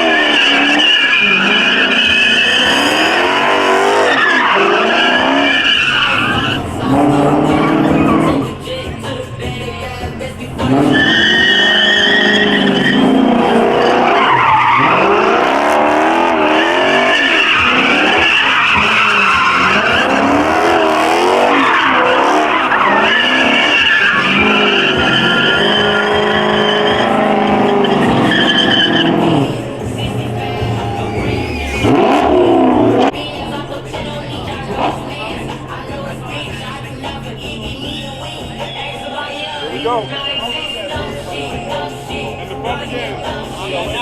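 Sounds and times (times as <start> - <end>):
car engine revving: 0.0 - 44.0
tyres squealing: 0.0 - 44.0.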